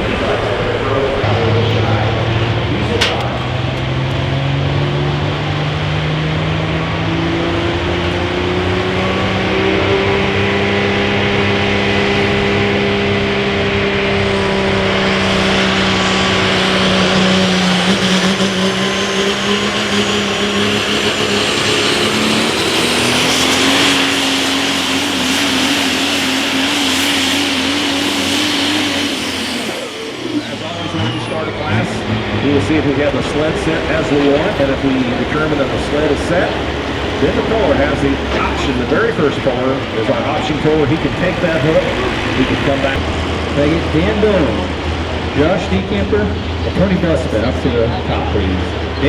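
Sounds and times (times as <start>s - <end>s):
diesel truck engine revving: 0.0s - 49.0s
high turbo whine: 0.0s - 49.0s.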